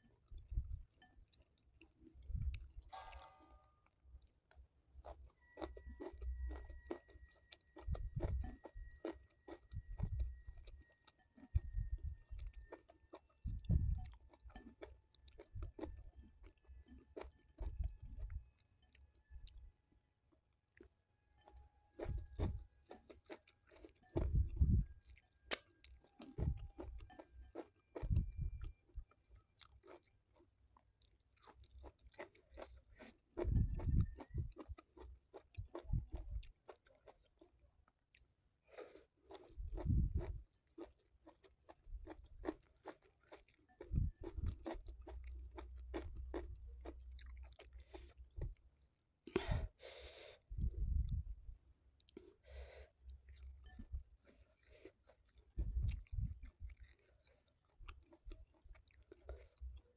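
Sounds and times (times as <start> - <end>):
chewing crunches: 4.2 - 19.6, 20.6 - 48.6, 52.0 - 59.9.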